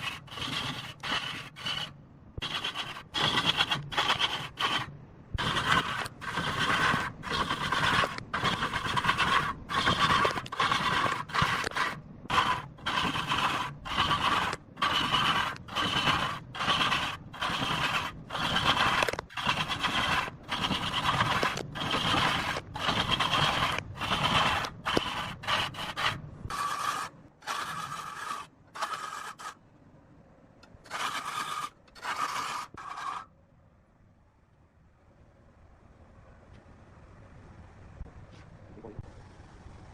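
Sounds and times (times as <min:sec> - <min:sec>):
scraping strokes on wood: 0:00.0 - 0:29.6, 0:30.6 - 0:33.3.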